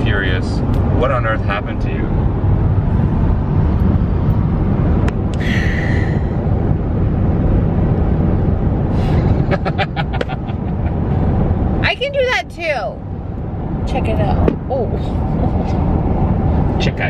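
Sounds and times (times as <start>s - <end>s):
road and engine noise in truck cab: 0.0s - 17.0s.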